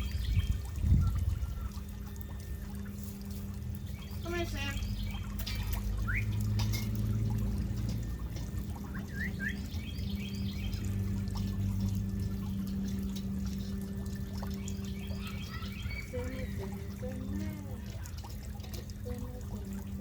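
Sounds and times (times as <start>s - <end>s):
steady low hum and hiss: 0.0s - 20.0s.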